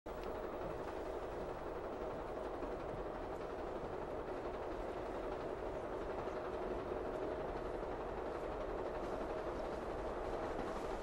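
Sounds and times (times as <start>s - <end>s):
moving passenger train rumble: 0.1s - 11.0s.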